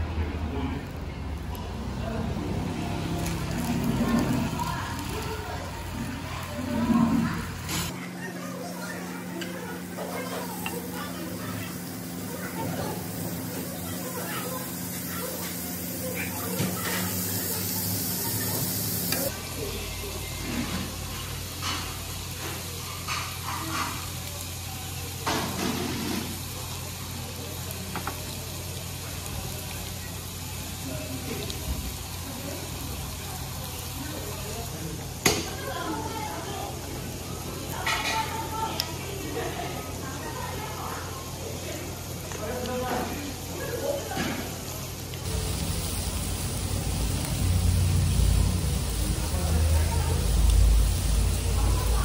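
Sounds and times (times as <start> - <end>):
voices: 0.0 - 52.0
meat sizzling on a grill: 0.4 - 52.0.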